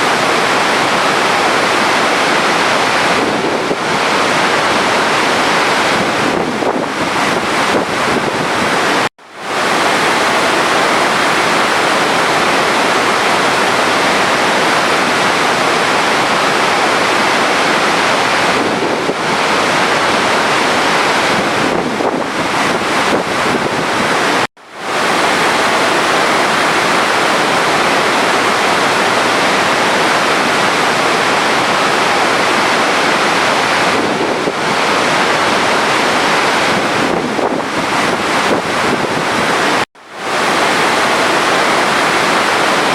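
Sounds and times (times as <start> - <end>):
running water: 0.0 - 42.9.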